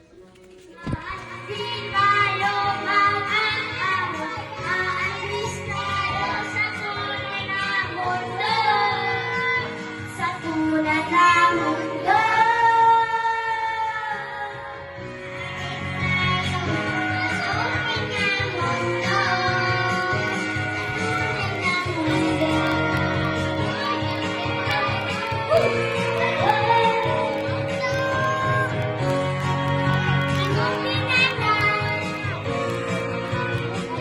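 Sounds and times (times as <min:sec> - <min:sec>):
music with high singing voice: 0:00.0 - 0:34.0.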